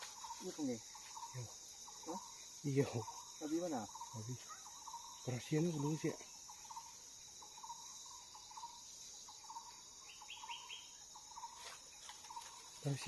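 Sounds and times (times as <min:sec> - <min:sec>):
bird chirping: 0:00.0 - 0:13.0
insects droning: 0:00.0 - 0:13.0.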